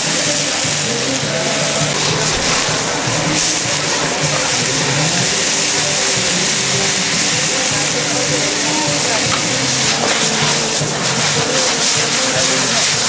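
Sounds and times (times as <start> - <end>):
hubbub of voices: 0.0 - 13.0
music playing: 0.0 - 13.0.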